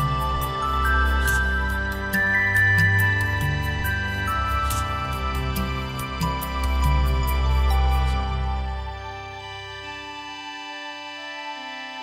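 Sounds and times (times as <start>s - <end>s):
gentle music with held notes: 0.0s - 12.0s.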